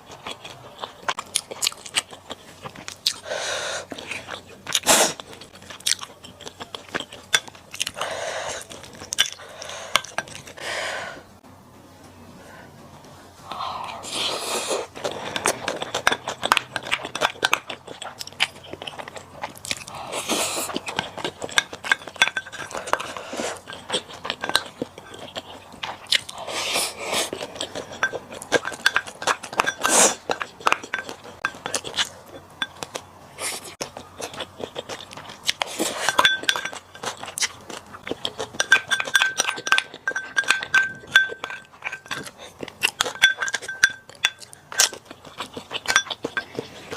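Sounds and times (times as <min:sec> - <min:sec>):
person chewing and crunching: 0:00.0 - 0:11.1, 0:13.7 - 0:46.9.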